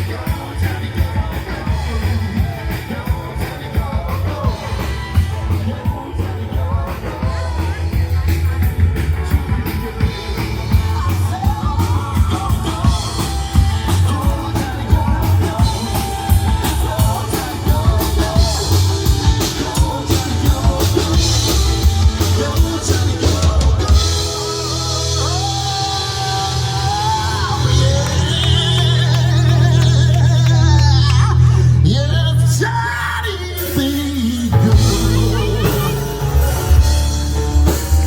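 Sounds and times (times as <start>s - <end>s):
bass guitar: 0.0s - 38.0s
drum kit: 0.0s - 38.0s
person singing: 0.0s - 38.0s.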